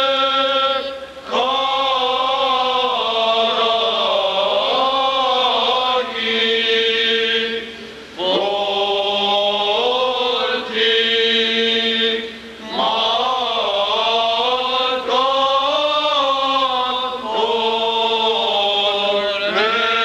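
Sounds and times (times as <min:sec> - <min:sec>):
liturgical chant singing: 0:00.0 - 0:20.0.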